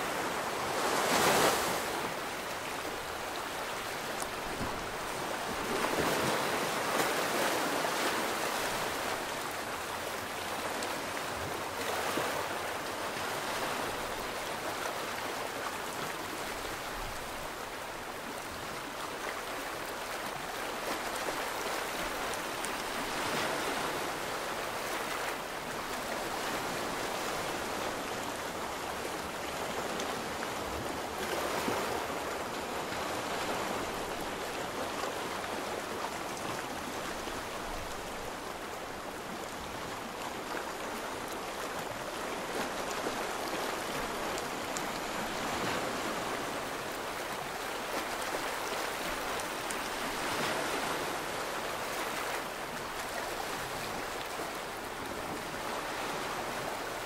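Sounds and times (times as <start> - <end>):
small waves washing ashore: 0.0 - 57.0.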